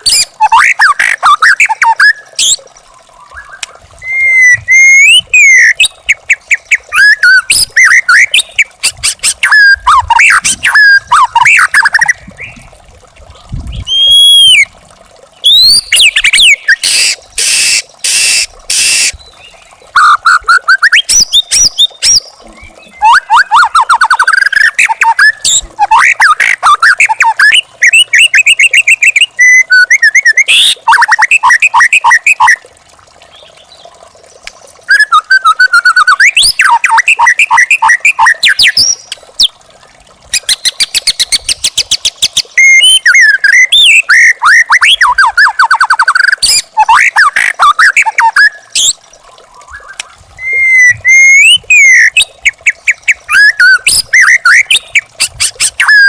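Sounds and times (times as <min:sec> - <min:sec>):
songbird singing trills and whistles: 0:00.0 - 0:12.7, 0:13.7 - 0:14.7, 0:15.4 - 0:32.6, 0:34.9 - 0:39.6, 0:40.3 - 0:56.0.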